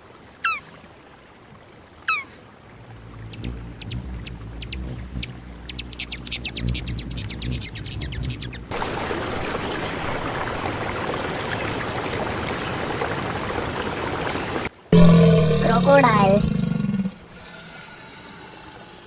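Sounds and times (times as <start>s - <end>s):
running water rushing: 0.0s - 18.7s.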